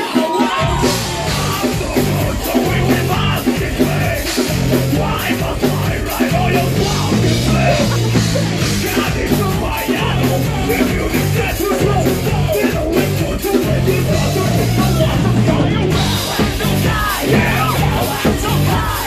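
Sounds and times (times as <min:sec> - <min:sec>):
metal band playing live: 0:00.0 - 0:19.0
shouted vocal: 0:00.0 - 0:19.0.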